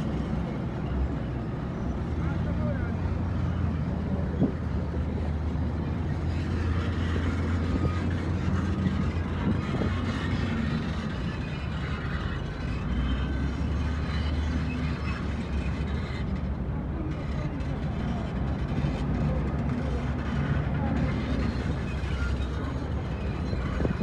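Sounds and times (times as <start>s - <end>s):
heavy diesel engines droning: 0.0s - 24.0s.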